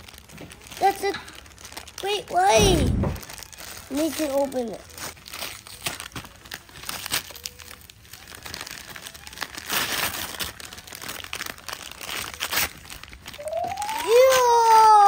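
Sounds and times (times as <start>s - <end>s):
wrapping paper tearing and crumpling: 0.0s - 15.0s.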